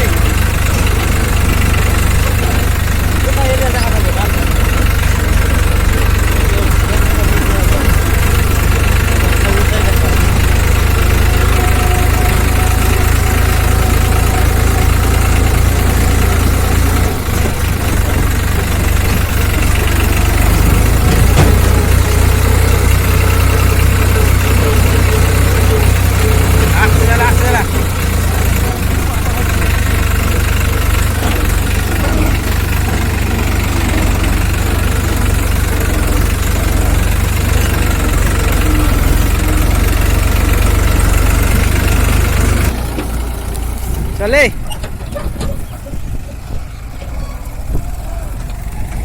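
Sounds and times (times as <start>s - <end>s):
diesel engine rumbling: 0.0s - 49.0s.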